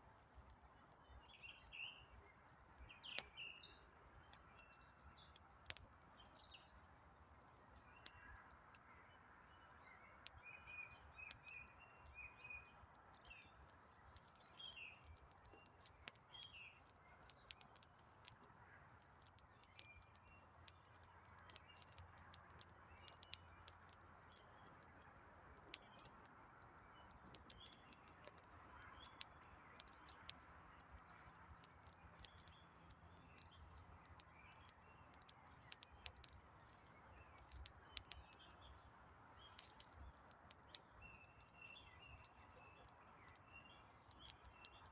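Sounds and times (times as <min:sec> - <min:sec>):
faint campfire crackling: 0:00.0 - 0:44.9
small birds chirping: 0:00.0 - 0:44.9.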